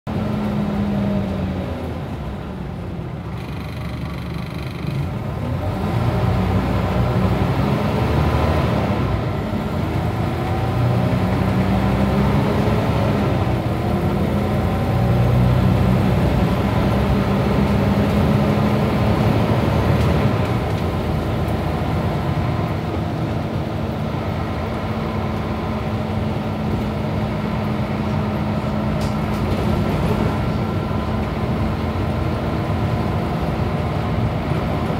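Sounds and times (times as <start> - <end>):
bus diesel engine: 0.1 - 34.9.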